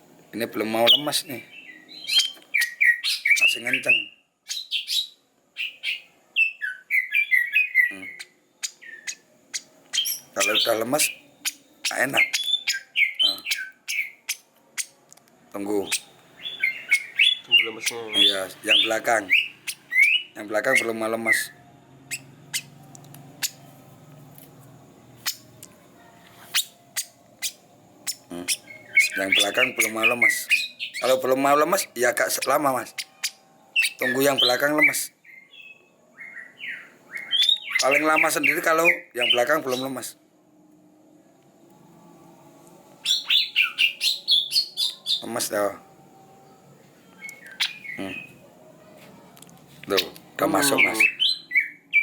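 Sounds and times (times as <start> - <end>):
songbirds chirping: 0.0 - 52.0
faint low hum: 7.8 - 51.6.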